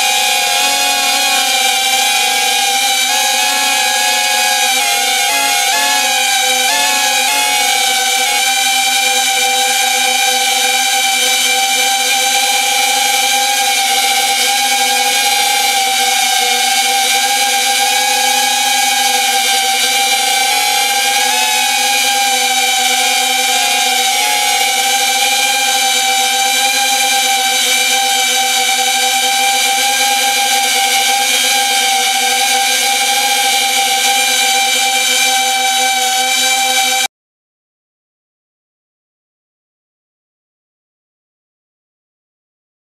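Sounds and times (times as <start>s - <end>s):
drone motors and propellers whining: 0.0s - 37.1s.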